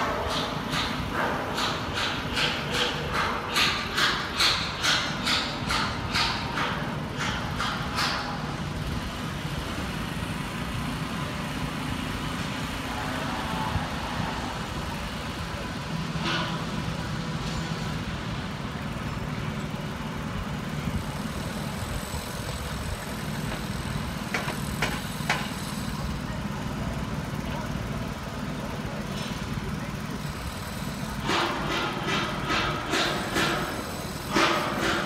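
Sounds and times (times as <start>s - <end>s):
heavy machinery engine running: 0.0s - 35.0s.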